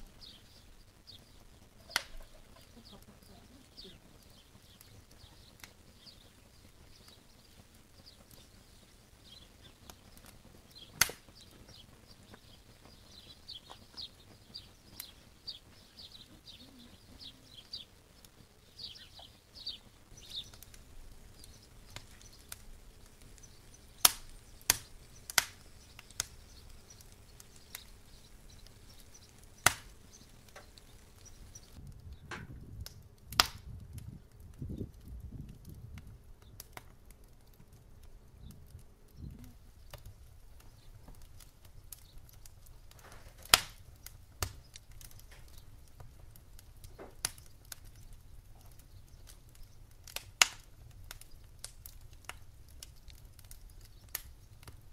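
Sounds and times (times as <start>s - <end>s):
small birds chirping: 0.0s - 32.3s, 34.0s - 54.9s
fire popping: 0.0s - 54.9s
wood fire burning: 0.0s - 54.9s.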